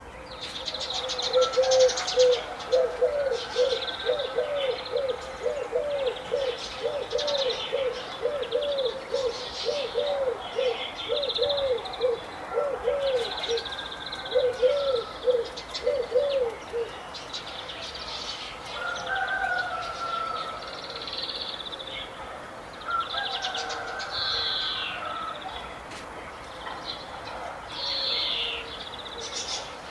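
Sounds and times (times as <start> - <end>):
birds chirping and trilling: 0.0 - 29.9.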